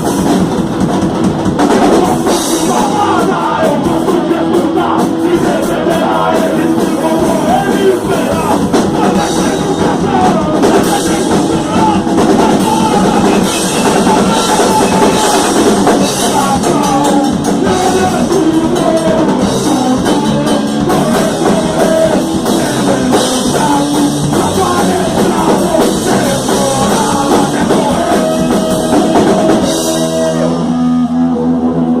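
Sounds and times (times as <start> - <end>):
drum kit: 0.0 - 32.0
guitars: 0.0 - 32.0
person singing: 1.7 - 32.0.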